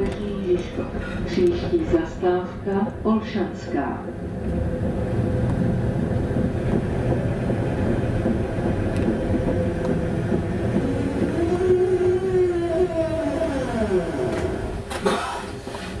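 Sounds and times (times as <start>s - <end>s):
tram wheels rumbling on rail: 0.0s - 16.0s.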